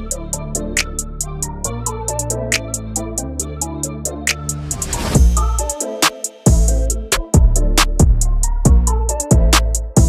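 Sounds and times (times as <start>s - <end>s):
electronic hip-hop music: 0.0s - 10.0s.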